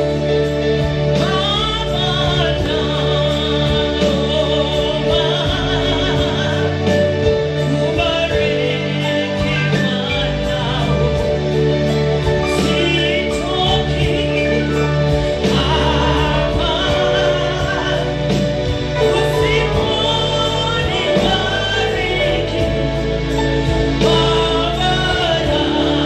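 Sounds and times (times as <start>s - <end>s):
violins playing: 0.0s - 26.0s.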